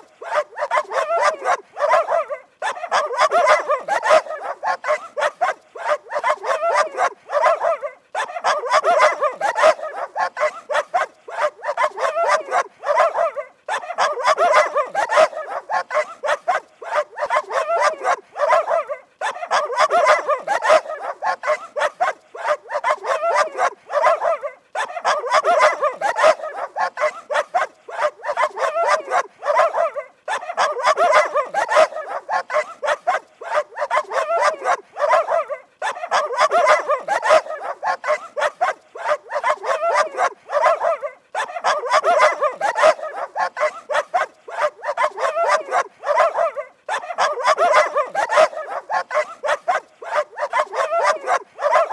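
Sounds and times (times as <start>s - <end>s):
dog barking rapidly: 0.0s - 51.9s.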